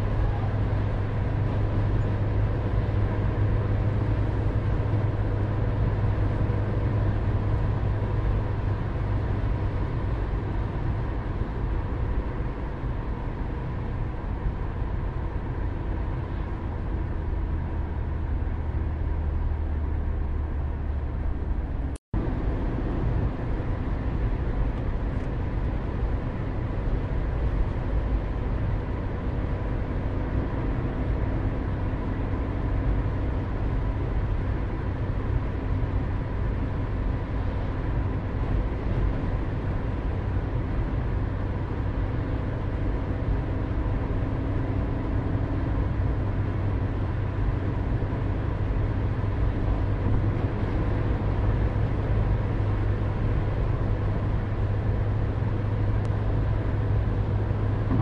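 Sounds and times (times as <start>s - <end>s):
car engine and tyres humming: 0.0s - 58.0s.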